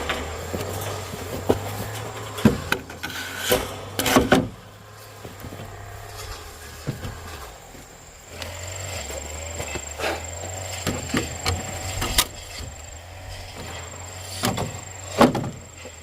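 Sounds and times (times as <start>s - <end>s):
wood scraping: 0.0s - 16.0s.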